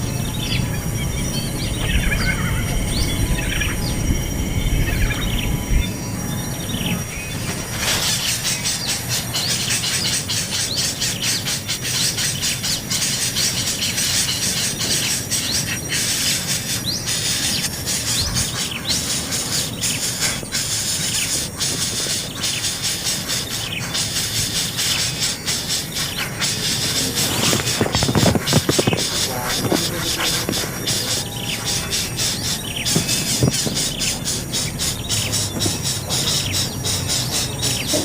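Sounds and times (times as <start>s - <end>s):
nestlings begging: 0.0s - 38.0s.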